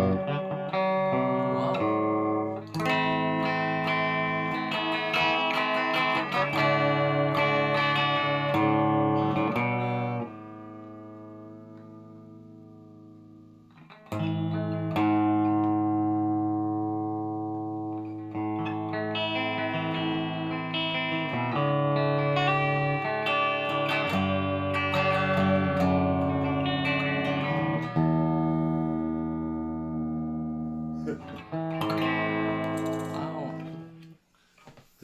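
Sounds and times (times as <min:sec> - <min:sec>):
electric guitar chords and notes: 0:00.0 - 0:34.2.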